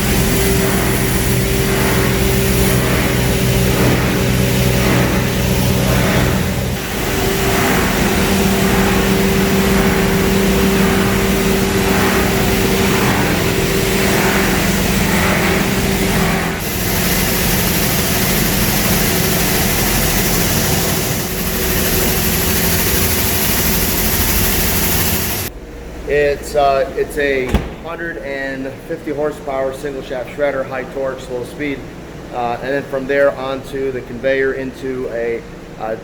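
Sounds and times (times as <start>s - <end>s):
dense mechanical noise: 0.0s - 36.0s
machinery hum: 0.0s - 36.0s.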